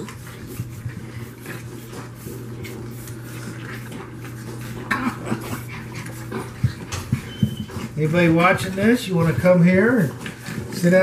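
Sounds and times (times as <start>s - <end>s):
puppies rustling on a blanket: 0.0s - 11.0s
steady low hum: 0.0s - 11.0s.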